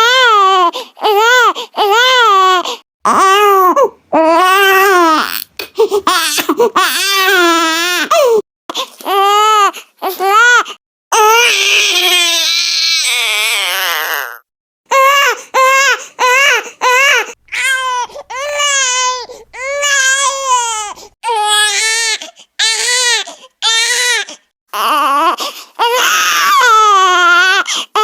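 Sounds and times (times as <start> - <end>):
baby crying: 0.0 - 28.0.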